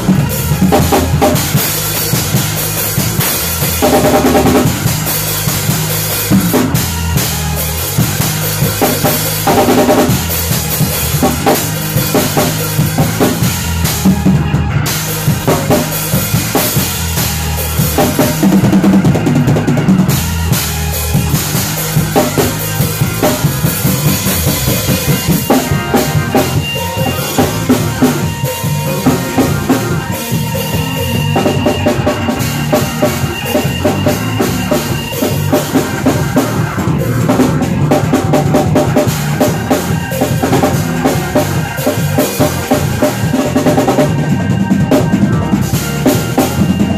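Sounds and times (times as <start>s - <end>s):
bass notes: 0.0s - 46.9s
drum kit playing: 0.0s - 46.9s
organ notes: 0.0s - 46.9s.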